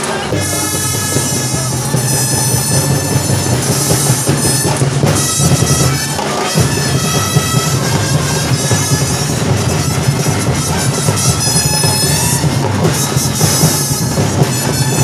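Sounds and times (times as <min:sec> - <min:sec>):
marching band playing: 0:00.0 - 0:15.0
steady drumming: 0:00.0 - 0:15.0.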